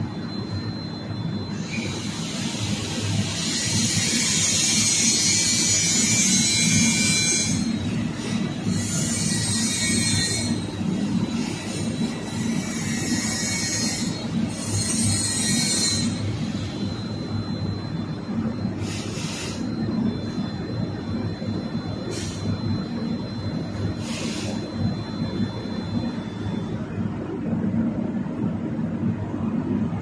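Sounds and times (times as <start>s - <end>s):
vending machine mechanical whir: 0.0s - 30.0s.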